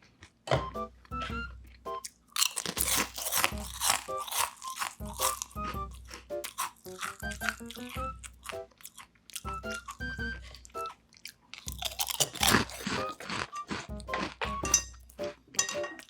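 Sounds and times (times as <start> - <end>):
crunching and chewing chips: 0.0 - 16.0
light plinking background music: 0.6 - 8.7, 9.5 - 11.0, 11.7 - 16.0.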